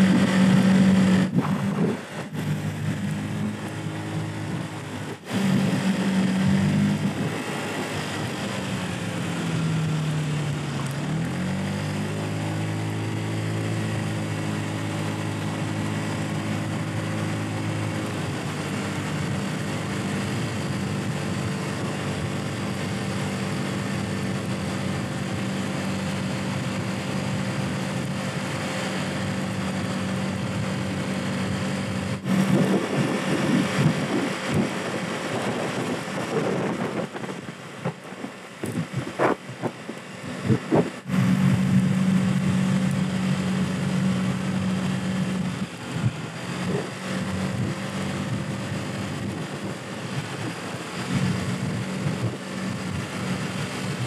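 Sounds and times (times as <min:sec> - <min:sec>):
wind buffeting microphone: 0:00.0 - 0:10.0, 0:17.8 - 0:54.0
moped engine running: 0:00.0 - 0:54.0.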